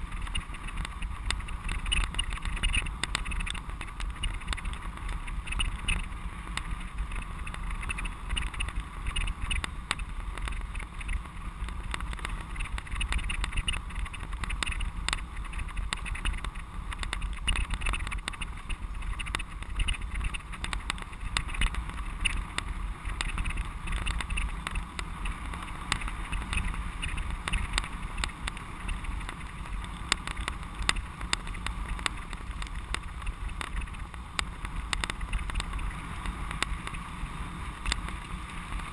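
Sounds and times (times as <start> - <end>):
bicycle rattles and clicks: 0.0 - 38.9
wind rumble on microphone: 0.0 - 38.9.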